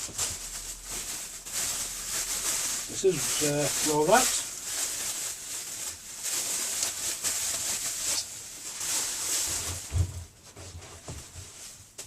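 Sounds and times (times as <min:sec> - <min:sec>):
plastic wrapping rustling: 0:00.0 - 0:12.0.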